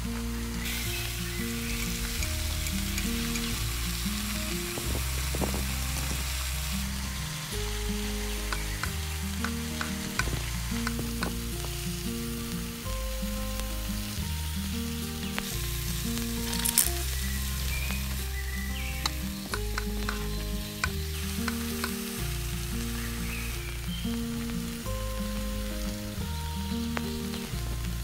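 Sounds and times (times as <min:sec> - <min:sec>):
rice sizzling in a pot: 0:00.0 - 0:28.0
slow low background music: 0:00.0 - 0:28.0.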